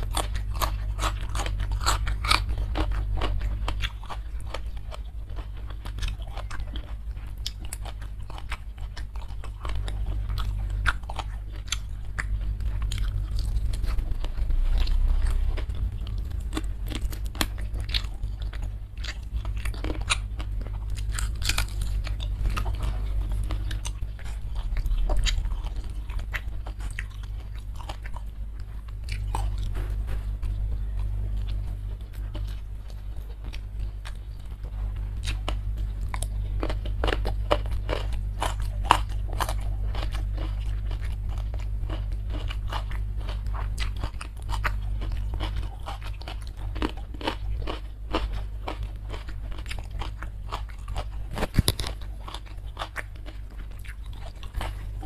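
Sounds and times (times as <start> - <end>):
chewing and crunching food: 0.0 - 55.0
steady low hum: 0.0 - 55.0.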